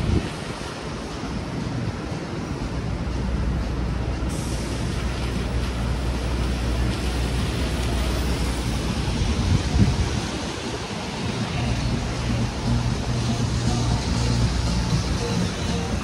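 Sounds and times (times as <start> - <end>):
wind and rain on microphone: 0.0 - 16.0.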